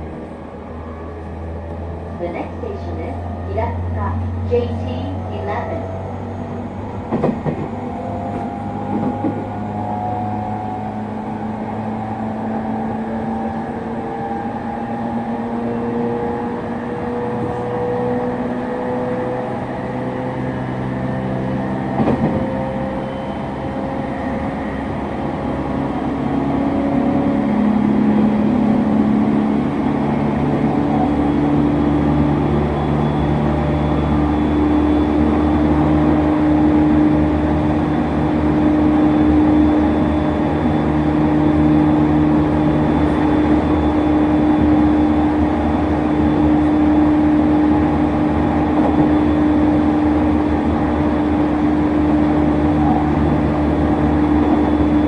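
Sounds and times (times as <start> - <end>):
train motor whine: 0.0 - 55.0
wheels rumbling on rail: 0.0 - 55.0.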